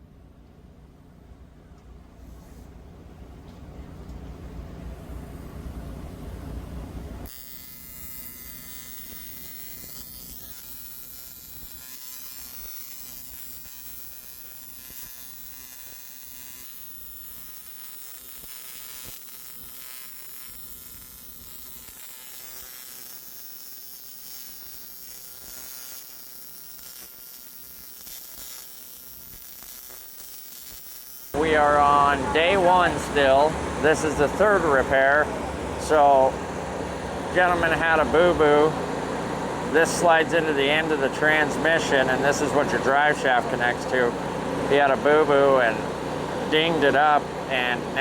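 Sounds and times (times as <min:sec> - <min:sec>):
welding arc buzzing: 0:07.2 - 0:48.0.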